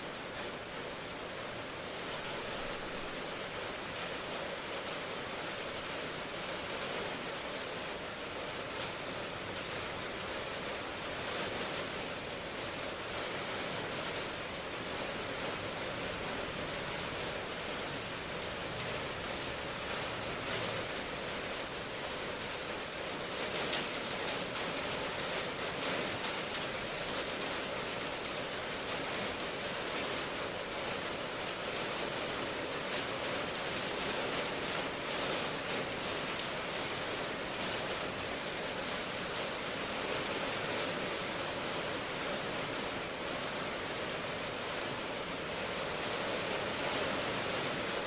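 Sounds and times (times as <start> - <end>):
rain falling: 0.0 - 48.0
raindrops pattering on a surface: 0.0 - 48.0.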